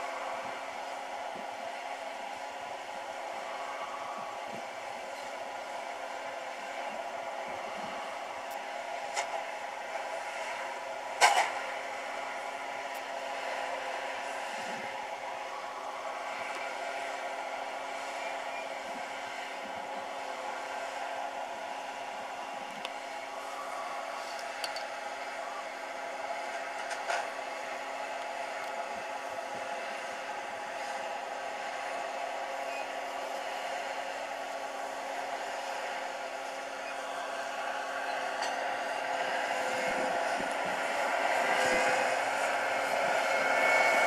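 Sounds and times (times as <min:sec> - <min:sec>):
combine harvester droning: 0:00.0 - 0:44.0.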